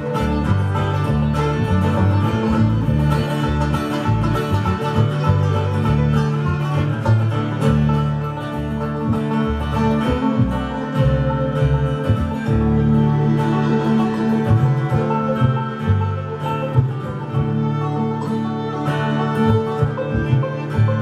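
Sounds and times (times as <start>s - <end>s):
banjo: 0.0s - 21.0s
string band playing fast tune: 0.0s - 21.0s.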